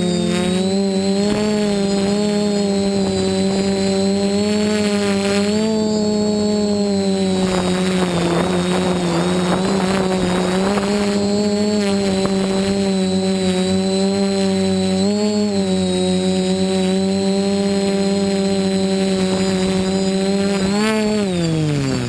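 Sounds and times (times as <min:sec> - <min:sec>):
quadcopter propellers humming: 0:00.0 - 0:22.0.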